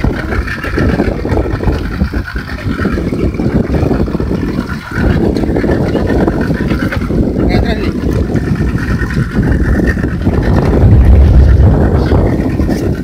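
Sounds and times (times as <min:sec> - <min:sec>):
water washing around a hull: 0:00.0 - 0:13.0
wind buffeting the microphone: 0:00.0 - 0:13.0.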